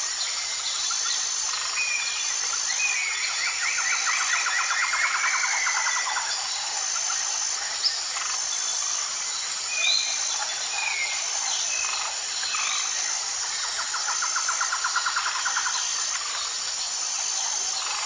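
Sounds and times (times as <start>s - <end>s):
birds singing and calling: 0.0s - 18.0s.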